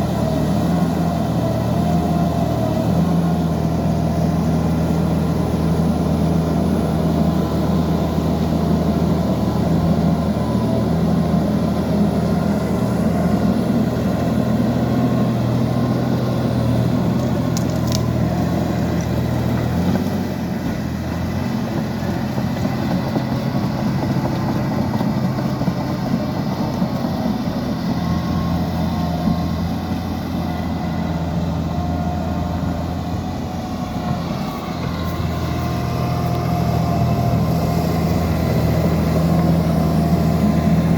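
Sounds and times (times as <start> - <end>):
diesel engine running under work: 0.0 - 40.9.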